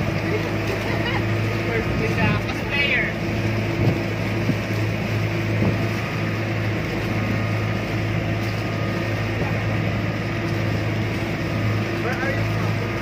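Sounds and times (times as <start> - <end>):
boat engine droning: 0.0 - 13.0
water rushing: 0.0 - 13.0.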